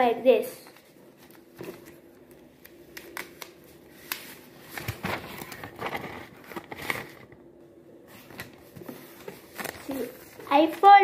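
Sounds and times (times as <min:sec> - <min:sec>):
paper rustling and crinkling: 0:00.7 - 0:07.4, 0:08.1 - 0:11.0.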